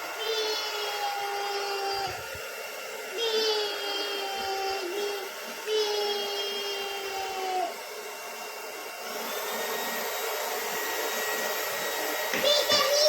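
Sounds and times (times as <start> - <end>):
stick vacuum motor whine: 0.0 - 13.0.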